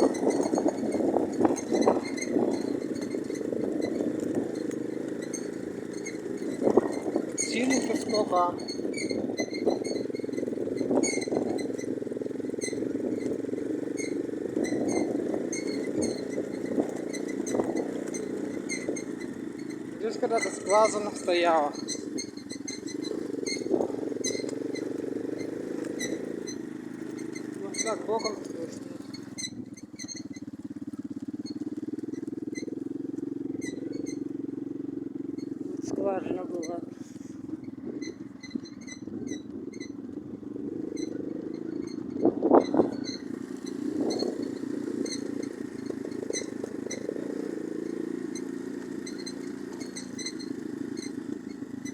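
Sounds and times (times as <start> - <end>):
short high squeaks: 0.0 - 40.1, 40.8 - 51.9
moped engine running: 0.0 - 51.9.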